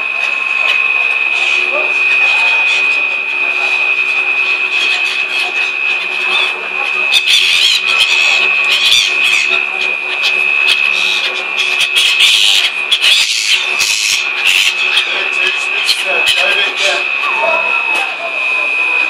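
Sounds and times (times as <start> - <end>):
gulls calling: 0.0 - 19.0
mechanical hum with high whine: 0.0 - 19.0.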